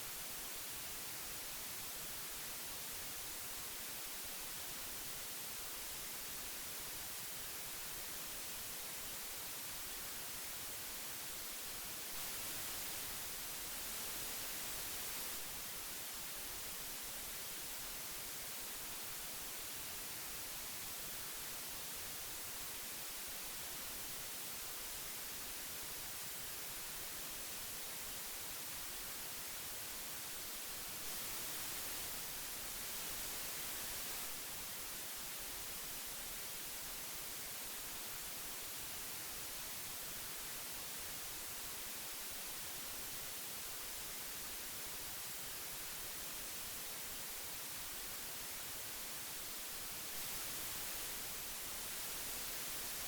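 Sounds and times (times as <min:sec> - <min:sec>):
magnetic tape hiss: 0:00.0 - 0:53.0.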